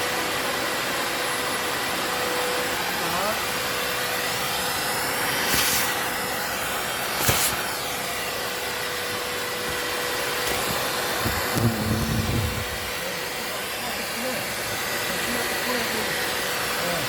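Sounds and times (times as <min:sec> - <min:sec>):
vacuum cleaner whining: 0:00.0 - 0:17.0.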